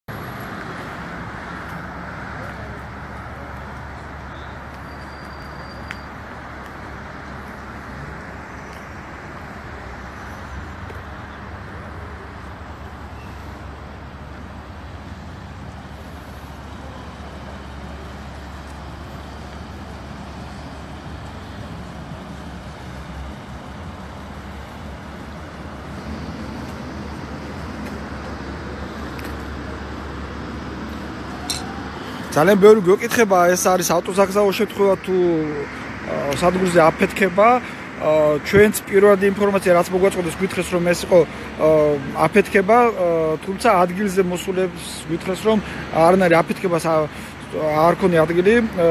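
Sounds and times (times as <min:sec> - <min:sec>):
low traffic hum: 0:00.1 - 0:48.9.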